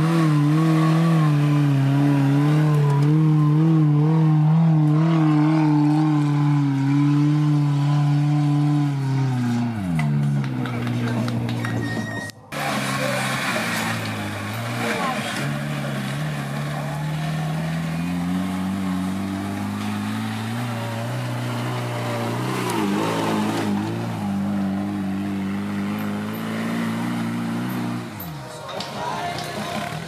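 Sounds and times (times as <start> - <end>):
off-road vehicle engine labouring: 0.0 - 30.0.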